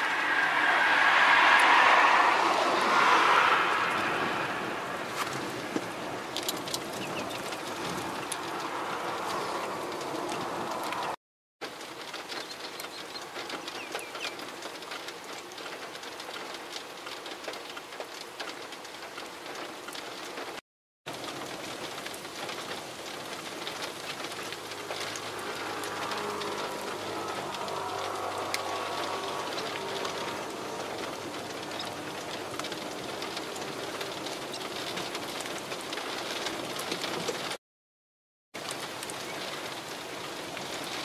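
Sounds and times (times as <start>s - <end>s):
wind-driven rain rushing: 0.0s - 37.6s, 38.6s - 41.0s
raindrop ticks: 5.2s - 37.6s, 38.6s - 41.0s.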